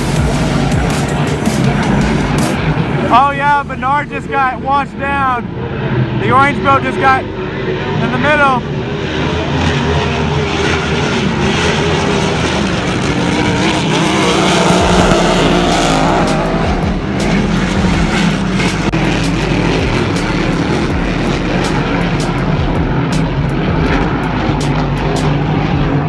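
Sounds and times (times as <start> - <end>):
race boat engine drone: 0.0 - 26.0.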